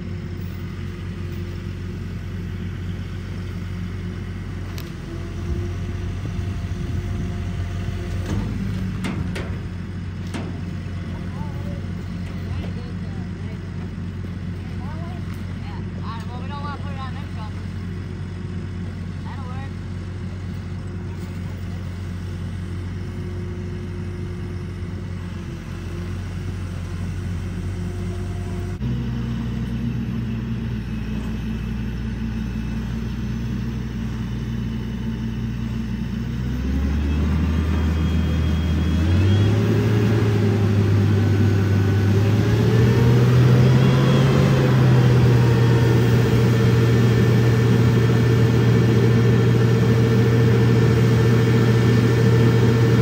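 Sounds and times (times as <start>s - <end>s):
diesel truck engine revving: 0.0s - 53.0s.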